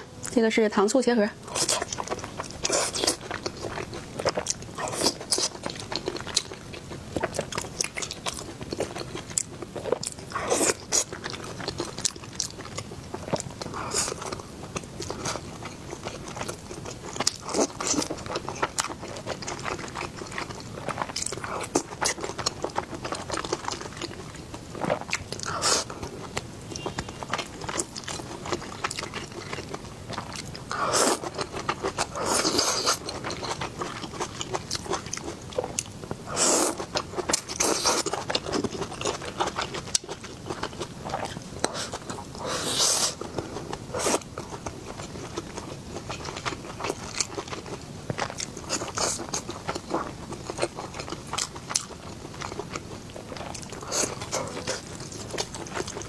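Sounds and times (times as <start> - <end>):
person chewing crunchy food: 1.4 - 56.0.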